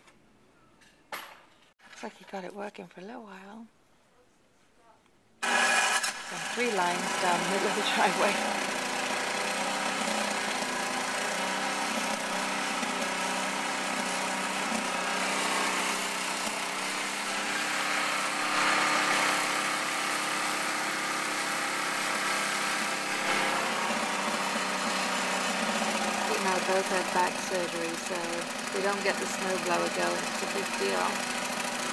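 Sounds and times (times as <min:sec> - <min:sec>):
small gasoline engine running: 0:05.4 - 0:31.9.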